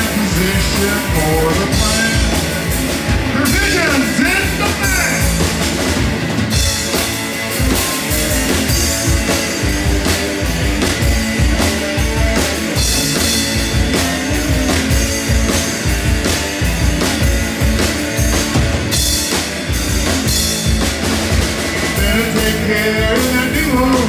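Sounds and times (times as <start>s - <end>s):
drum kit steady beat: 0.0s - 24.0s
electric bass: 0.0s - 24.0s
electric guitar: 0.0s - 24.0s.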